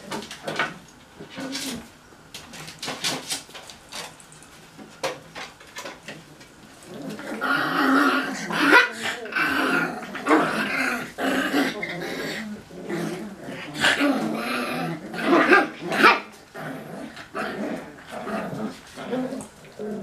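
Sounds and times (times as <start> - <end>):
puppies play-growling: 0.0 - 20.0.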